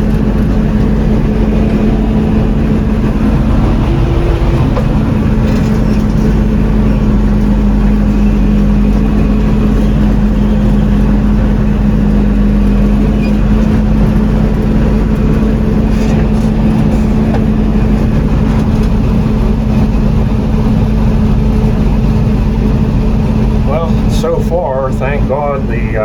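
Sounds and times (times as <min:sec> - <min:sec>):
combine diesel engine droning: 0:00.0 - 0:26.0.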